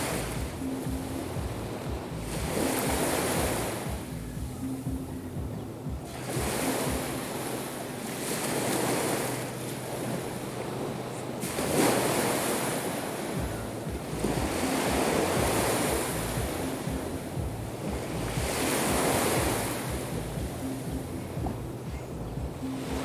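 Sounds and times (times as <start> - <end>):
waves breaking on shore: 0.0 - 23.0.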